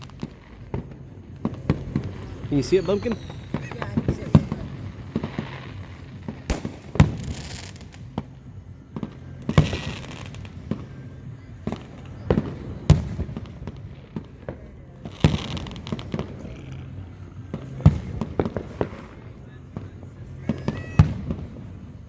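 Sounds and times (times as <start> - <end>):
fireworks booming: 0.0 - 22.0
fireworks crackling: 0.0 - 22.0.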